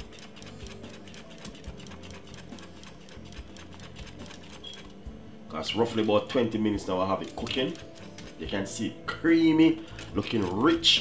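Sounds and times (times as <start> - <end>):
wire whisk beating in metal pot: 0.0 - 5.0, 5.6 - 11.0.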